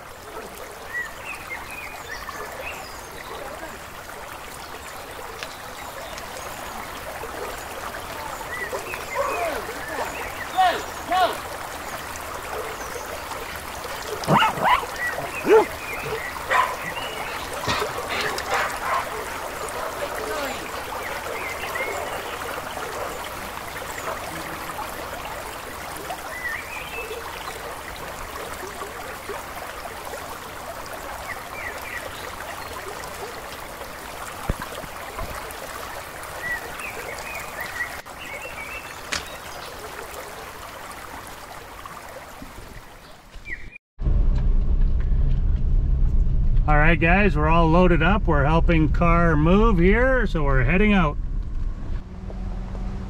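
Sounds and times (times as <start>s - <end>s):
running water rushing: 0.0s - 43.8s, 46.7s - 53.0s.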